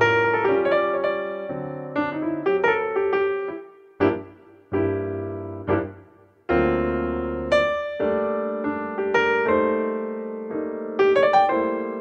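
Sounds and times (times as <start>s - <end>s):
slow solo piano music: 0.0s - 12.0s.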